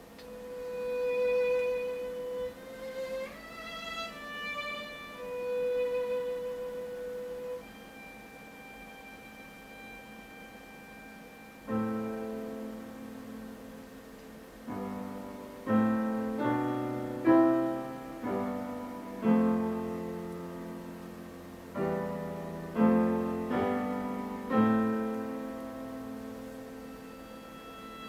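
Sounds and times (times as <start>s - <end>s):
slow sparse piano music: 0.0s - 28.0s.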